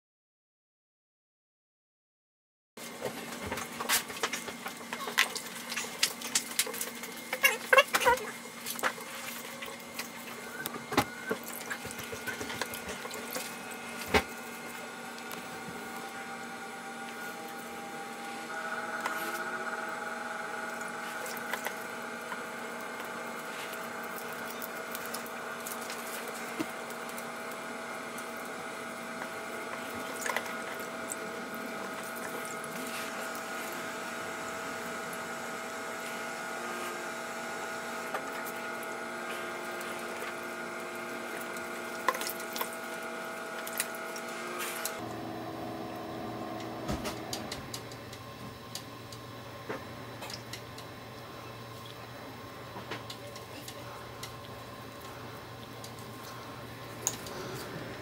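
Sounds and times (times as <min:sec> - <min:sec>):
machine whine: 0:02.8 - 0:58.0.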